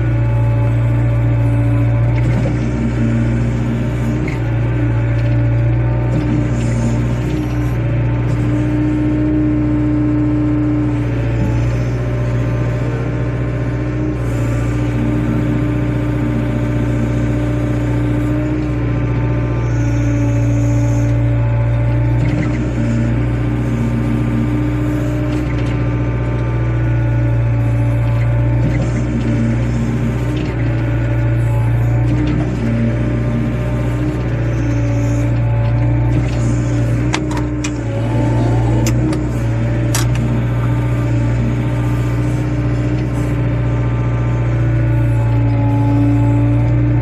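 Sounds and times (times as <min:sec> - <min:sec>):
excavator engine running: 0:00.0 - 0:47.0
hydraulic hum: 0:00.0 - 0:47.0.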